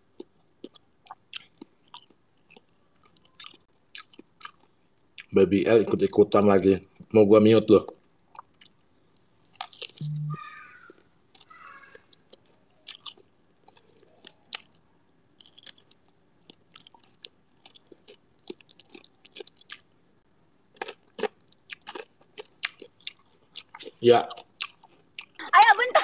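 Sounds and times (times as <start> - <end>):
person chewing crunchy food: 0.0 - 5.3, 8.3 - 25.4.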